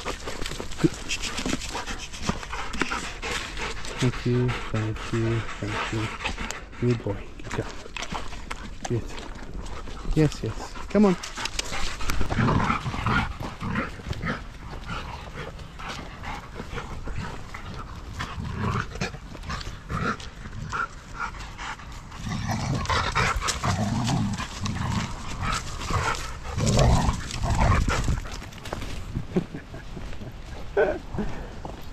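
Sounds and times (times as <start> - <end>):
dogs scuffling: 0.0 - 4.4, 7.0 - 30.8
dogs panting: 0.0 - 31.9.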